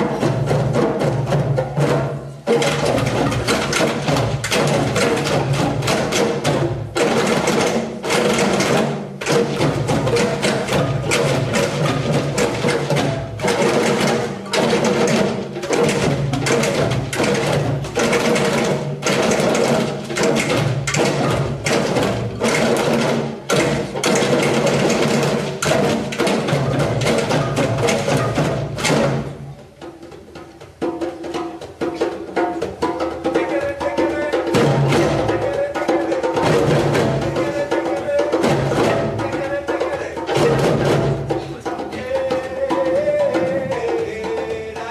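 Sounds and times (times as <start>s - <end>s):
djembes and calabashes drumming: 0.0s - 44.9s.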